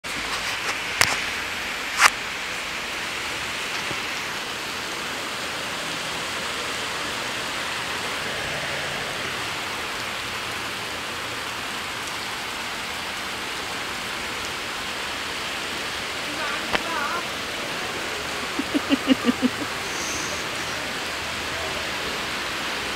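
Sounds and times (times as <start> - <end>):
heavy rain: 0.0 - 22.9.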